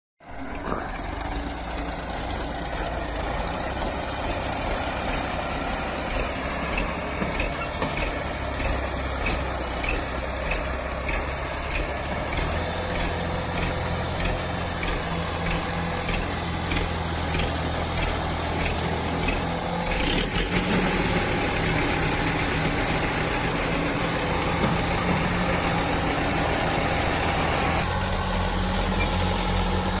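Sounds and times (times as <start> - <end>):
tractor engine under load: 0.2 - 30.0.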